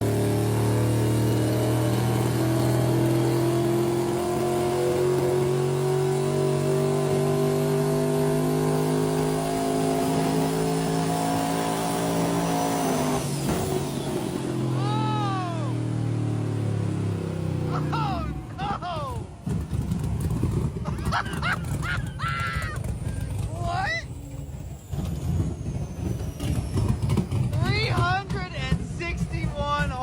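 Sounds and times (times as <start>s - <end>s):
golf cart engine running hard: 0.0s - 11.2s, 11.8s - 30.0s.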